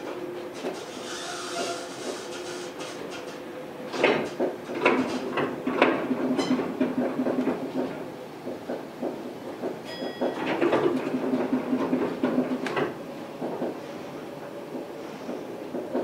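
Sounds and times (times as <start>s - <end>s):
monorail motor whine: 0.0s - 16.0s
clattering knocks and clicks: 1.6s - 13.8s, 14.7s - 16.0s.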